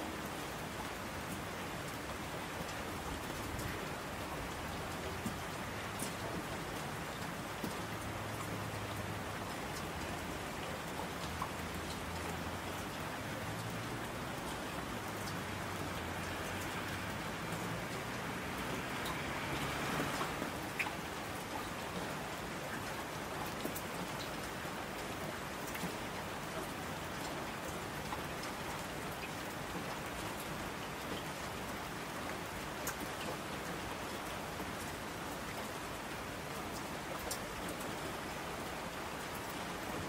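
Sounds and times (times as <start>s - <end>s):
rain falling: 0.0s - 40.0s
sharper raindrops: 0.0s - 40.0s.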